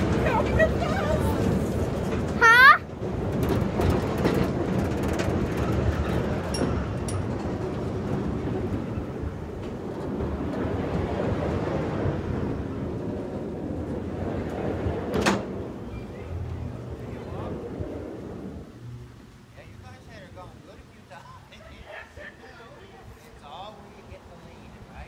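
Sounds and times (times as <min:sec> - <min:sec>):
ride machinery rumble and rattle: 0:00.0 - 0:25.0.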